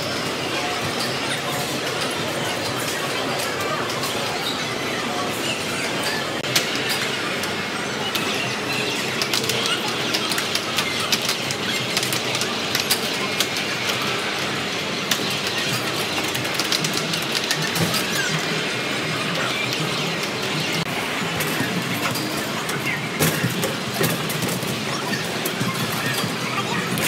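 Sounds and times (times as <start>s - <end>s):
busy arcade din: 0.0s - 27.0s.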